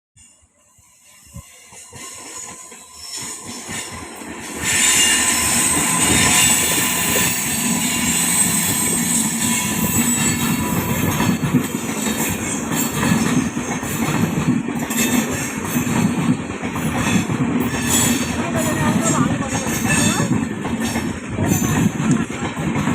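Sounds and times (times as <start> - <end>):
rushing noise of passing train: 0.2 - 22.9
train wheels clattering on rails: 1.3 - 22.9.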